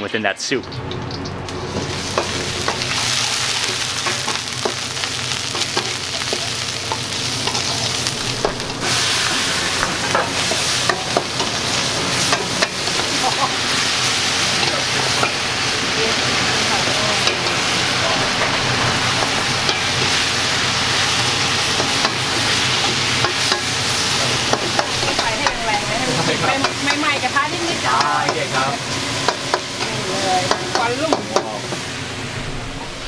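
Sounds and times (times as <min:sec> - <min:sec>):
food sizzling in hot oil: 0:00.6 - 0:33.0.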